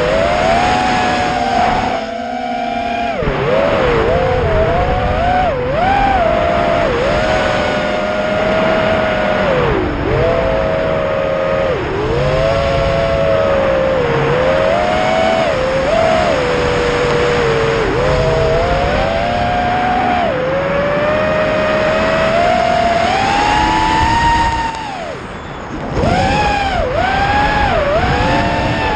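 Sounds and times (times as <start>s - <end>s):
drone motors and propellers whining: 0.0s - 28.9s.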